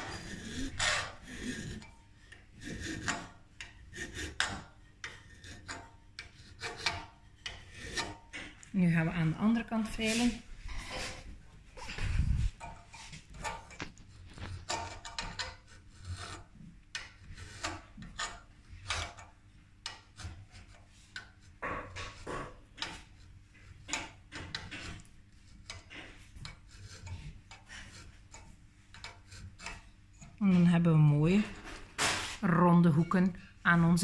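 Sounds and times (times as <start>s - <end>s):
metal file rasping on sheet metal: 0.0s - 32.4s.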